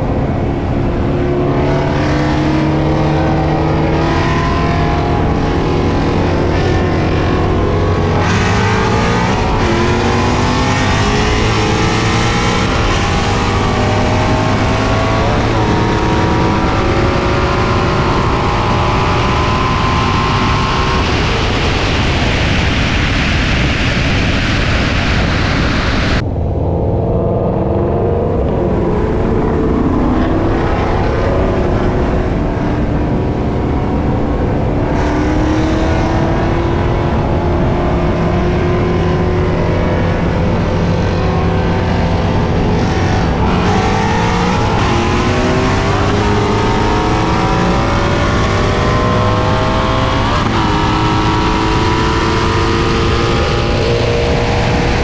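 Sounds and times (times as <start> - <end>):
car engine at full throttle: 0.0 - 55.0
wind and road noise: 0.0 - 55.0.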